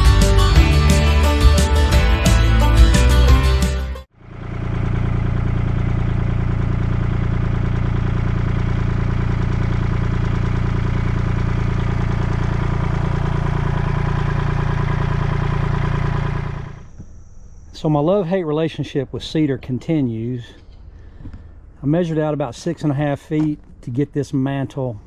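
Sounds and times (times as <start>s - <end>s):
engine idling: 0.0s - 24.3s.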